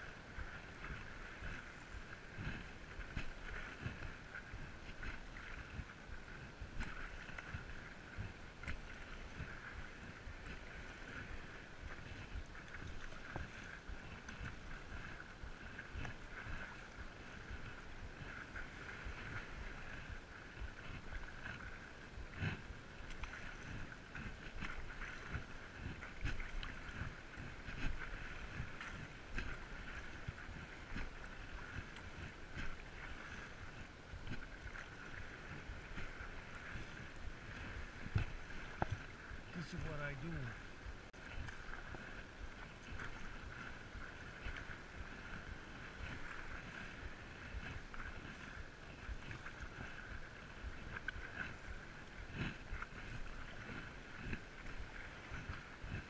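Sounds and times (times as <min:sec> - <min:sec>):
paddle splashes: 0:00.0 - 0:56.0.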